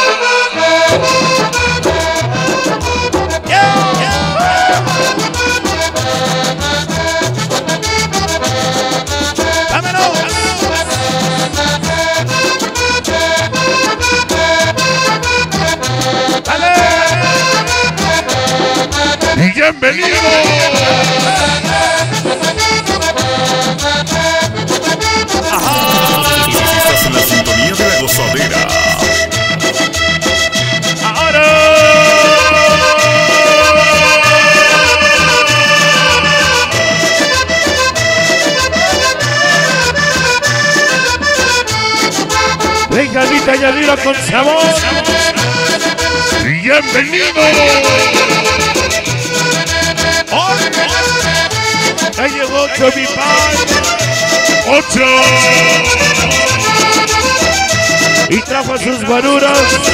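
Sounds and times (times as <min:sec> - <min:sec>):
accordion melody: 0:00.0 - 0:59.9
cumbia music over sound system: 0:00.0 - 0:59.9
bass and percussion beat: 0:00.8 - 0:46.5, 0:47.4 - 0:58.6.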